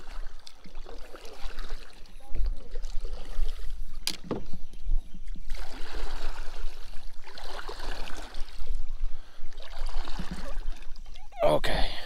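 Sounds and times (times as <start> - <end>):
river current rippling and gurgling: 0.0 - 12.0.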